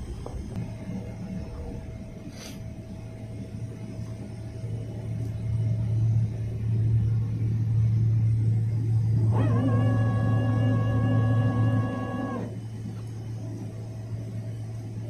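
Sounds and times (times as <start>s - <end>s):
humming tone: 0.0s - 15.0s
jet engine cabin rumble: 0.0s - 15.0s.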